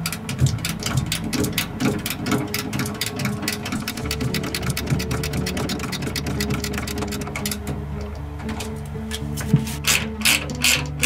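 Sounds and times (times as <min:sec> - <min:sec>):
held low notes: 0:00.0 - 0:11.0
music with fast ticking rhythm: 0:00.0 - 0:11.0.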